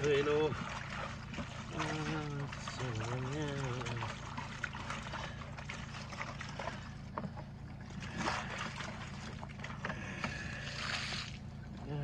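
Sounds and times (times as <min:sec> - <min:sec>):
steady low hum: 0:00.0 - 0:12.0
water sloshing in a crate: 0:00.0 - 0:12.0.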